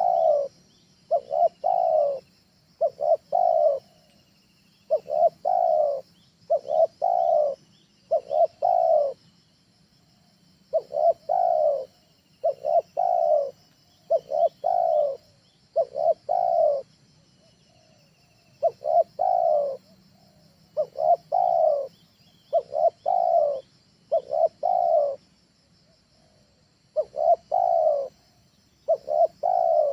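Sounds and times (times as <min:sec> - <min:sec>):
dove cooing: 0:00.0 - 0:04.1, 0:04.8 - 0:09.3, 0:10.7 - 0:25.2, 0:26.2 - 0:29.9.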